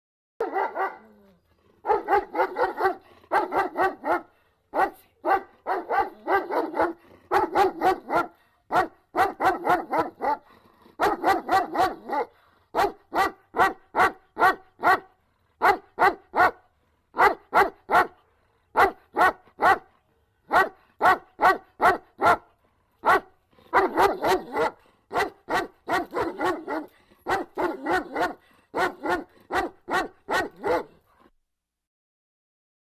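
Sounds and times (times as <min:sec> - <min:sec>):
dog barking: 0:00.4 - 0:31.3.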